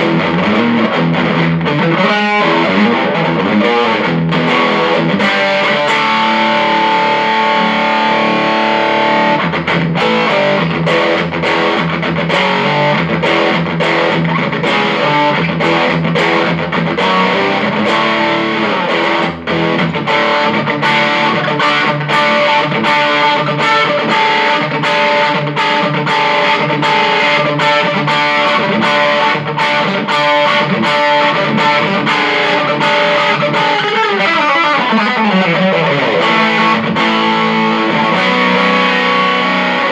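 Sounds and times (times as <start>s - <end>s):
electric guitar through amplifier: 0.0s - 39.9s.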